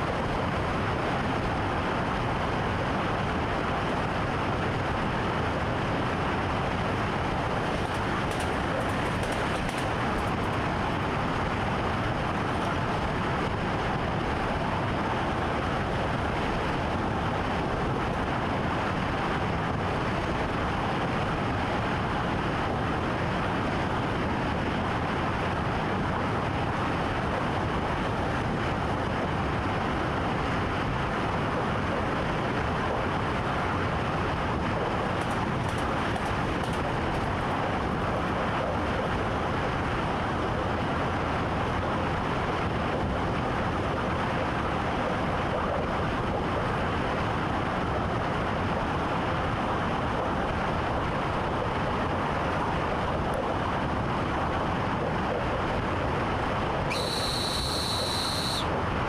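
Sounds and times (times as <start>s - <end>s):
train running on track: 0.0s - 59.0s.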